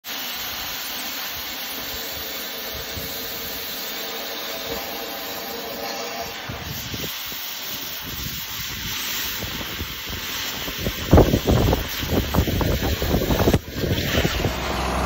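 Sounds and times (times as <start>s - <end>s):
cutting torch flame hissing: 0.0s - 15.0s.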